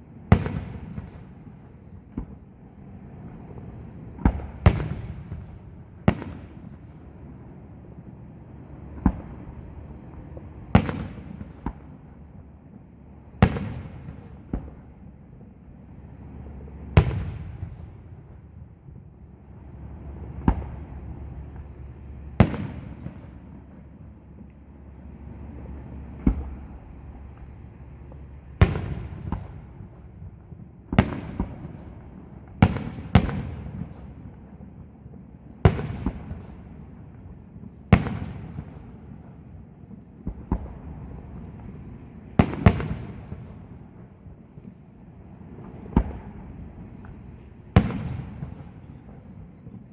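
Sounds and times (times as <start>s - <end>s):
firework shells bursting with booms: 0.0s - 8.0s, 8.8s - 12.6s, 13.3s - 49.9s.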